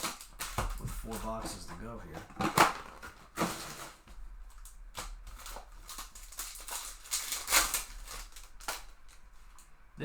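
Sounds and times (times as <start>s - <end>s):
cards and foil packs rustling: 0.0s - 9.7s.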